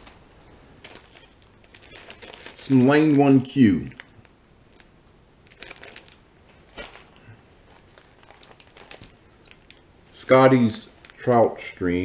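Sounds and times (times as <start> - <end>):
plastic bags crinkling: 0.0 - 11.8.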